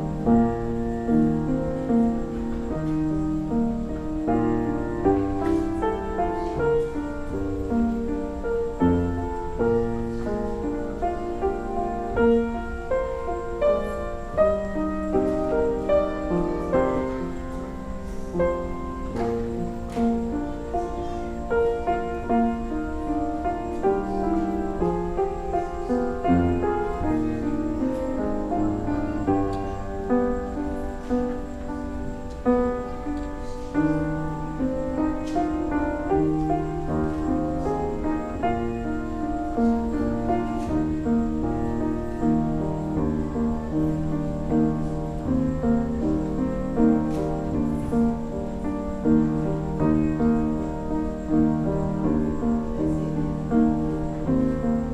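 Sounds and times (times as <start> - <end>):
slow keyboard music: 0.0 - 54.9.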